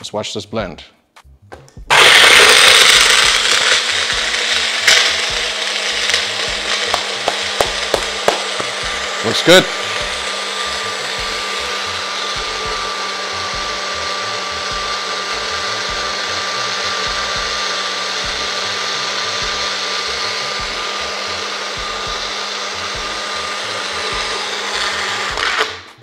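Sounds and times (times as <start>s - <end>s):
blender motor humming: 1.9s - 26.0s.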